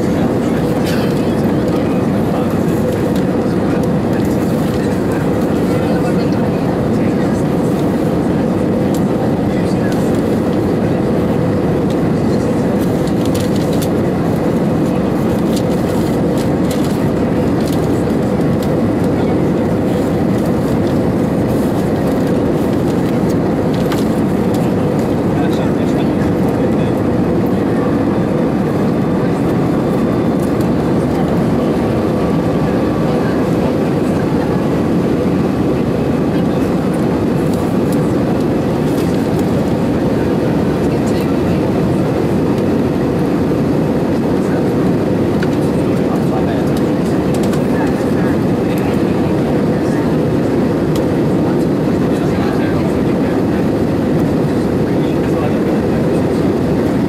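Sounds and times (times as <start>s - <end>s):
jet engines roaring: 0.0s - 57.0s
steady cabin hum: 0.0s - 57.0s.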